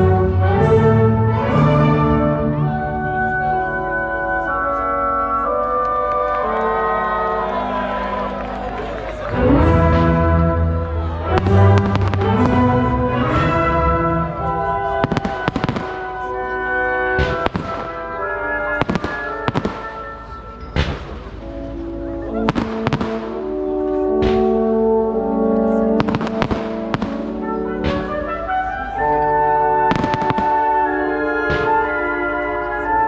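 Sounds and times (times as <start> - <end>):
orchestral music with brass: 0.0 - 33.0.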